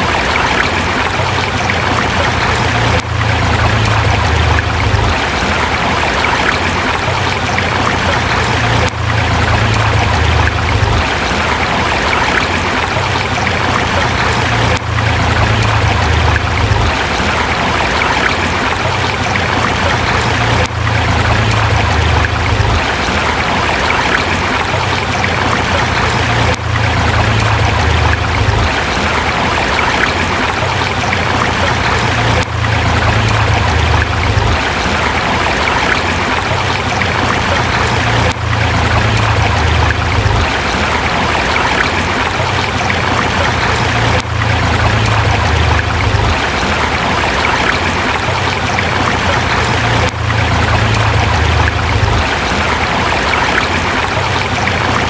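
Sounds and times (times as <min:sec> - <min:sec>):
low water rumble: 0:00.0 - 0:55.0
river rushing over rocks: 0:00.0 - 0:55.0.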